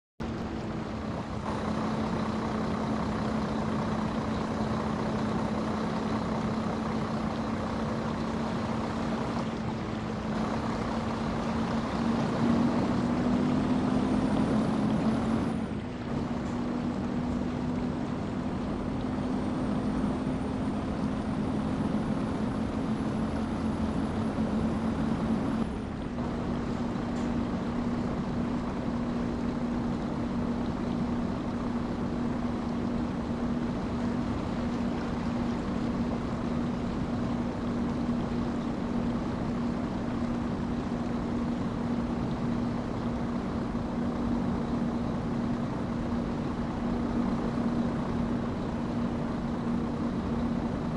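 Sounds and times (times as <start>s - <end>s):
heavy vehicle engine running: 0.2s - 50.9s.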